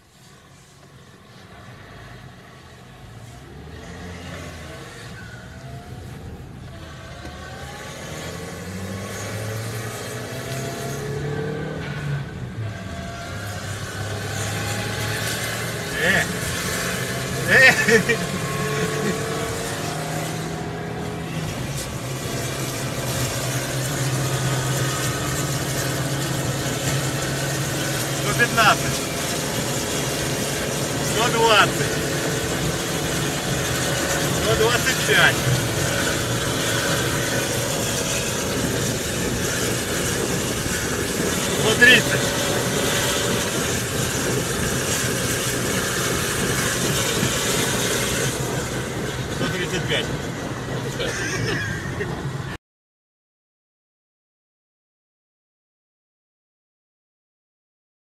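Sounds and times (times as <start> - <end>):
car engine hum: 0.0 - 52.5
road noise inside car: 0.0 - 52.6.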